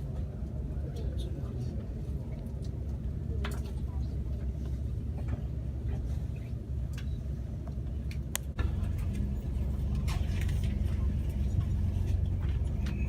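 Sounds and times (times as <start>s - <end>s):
low hum: 0.0s - 13.0s
train rumble inside carriage: 0.0s - 13.0s.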